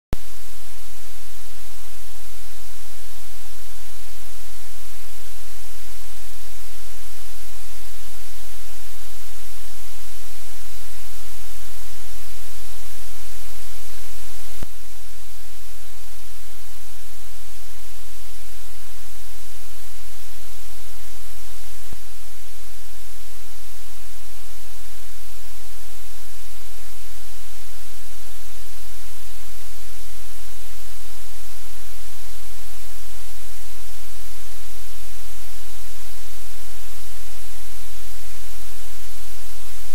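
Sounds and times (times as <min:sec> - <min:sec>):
loud static hiss: 0:00.2 - 0:39.9.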